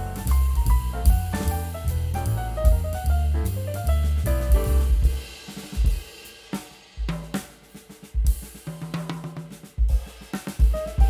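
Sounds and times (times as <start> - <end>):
drum break with bass: 0.0 - 11.0.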